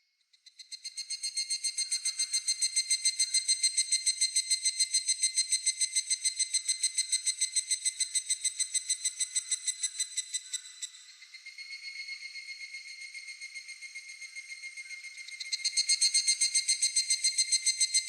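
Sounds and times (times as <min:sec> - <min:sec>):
cicada calling: 0:01.9 - 0:18.0.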